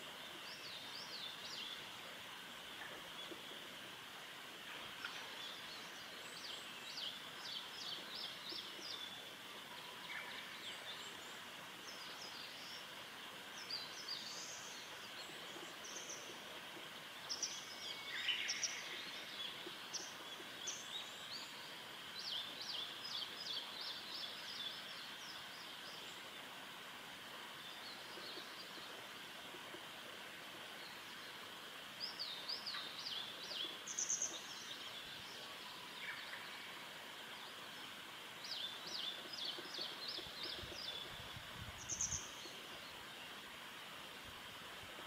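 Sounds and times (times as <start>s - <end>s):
steady high hiss: 0.0s - 45.0s.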